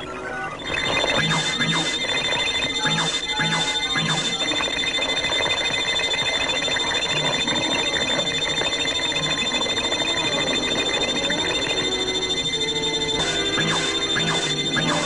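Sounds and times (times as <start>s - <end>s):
electronic ringing trill: 0.0s - 15.0s
steady high tone: 0.0s - 15.0s.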